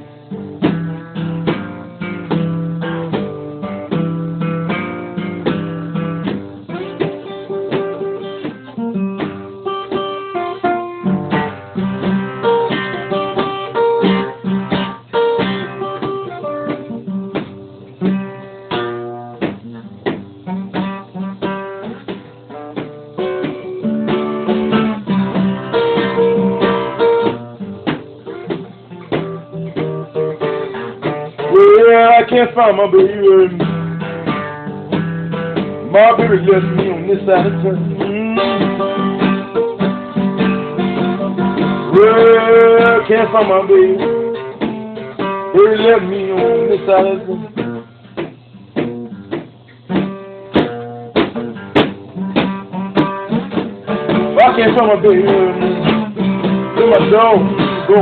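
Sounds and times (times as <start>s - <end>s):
blues acoustic guitar: 0.0s - 58.0s.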